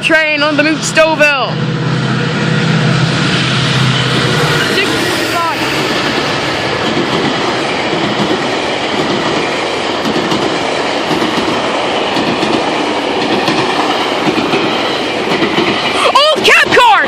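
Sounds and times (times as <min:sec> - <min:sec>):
train wheels rushing on rails: 0:00.0 - 0:17.0.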